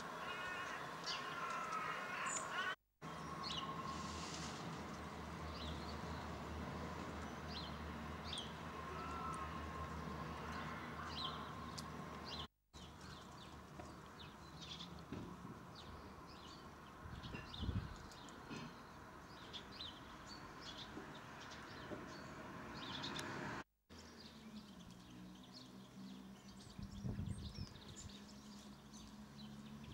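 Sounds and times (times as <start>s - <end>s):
wild birds chirping: 0.0s - 29.9s.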